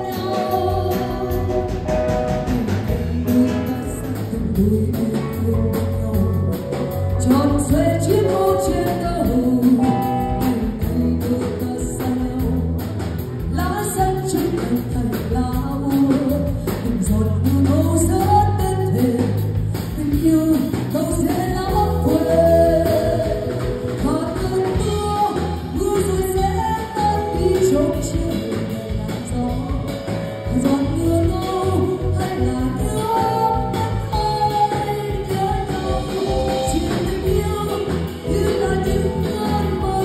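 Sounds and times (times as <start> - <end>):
drums: 0.0 - 40.0
electric bass guitar: 0.0 - 40.0
woman singing into a microphone: 0.0 - 40.0.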